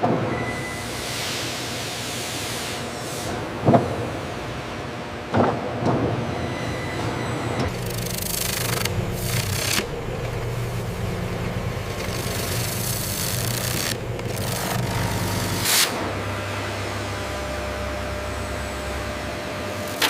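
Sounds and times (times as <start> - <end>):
mill machinery humming: 2.8 - 20.0.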